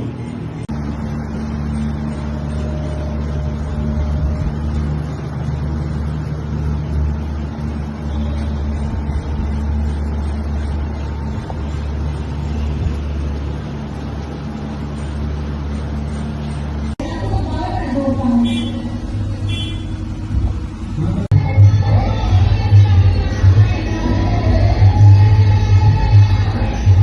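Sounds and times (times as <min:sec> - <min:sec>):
factory machinery humming: 0:00.0 - 0:27.0.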